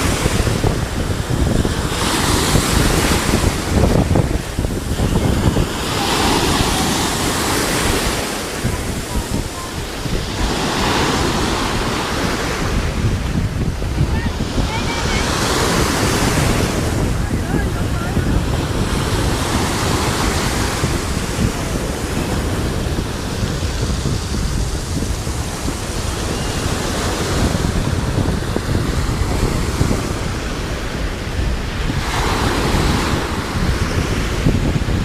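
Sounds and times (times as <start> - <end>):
sea waves washing in: 0.0 - 35.0
wind buffeting the microphone: 0.0 - 35.0.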